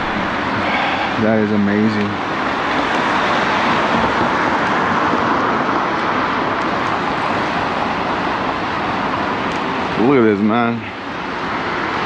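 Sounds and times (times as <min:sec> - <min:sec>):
scooter road noise: 0:00.0 - 0:12.0
wind noise: 0:00.0 - 0:12.0.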